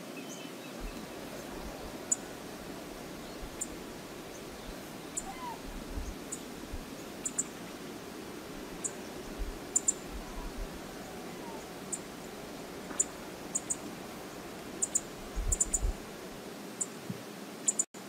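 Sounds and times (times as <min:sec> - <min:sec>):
low outdoor rush: 0:00.0 - 0:17.3.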